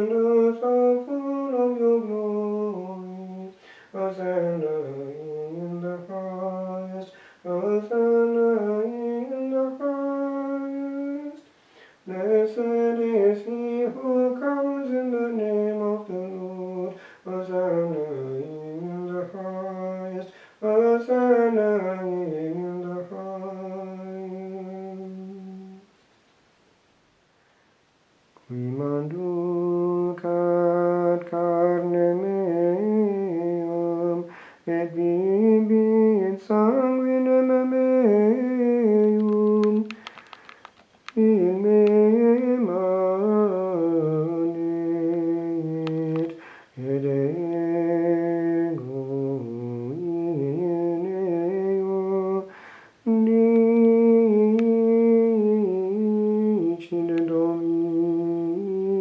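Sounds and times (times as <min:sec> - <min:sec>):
man singing plainchant: 0:00.0 - 0:25.9, 0:28.4 - 0:40.1, 0:41.1 - 0:59.0.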